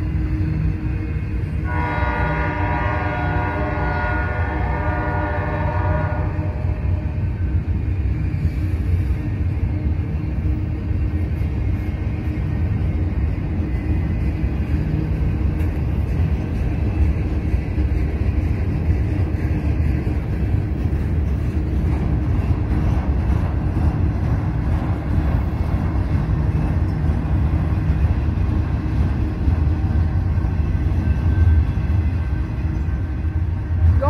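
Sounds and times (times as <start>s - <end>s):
freight train passing rumble: 0.0s - 34.0s.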